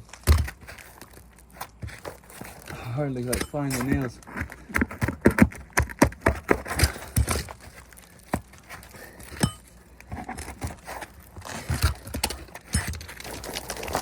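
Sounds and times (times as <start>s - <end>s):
roof shingles scraping and crinkling: 0.0s - 14.0s.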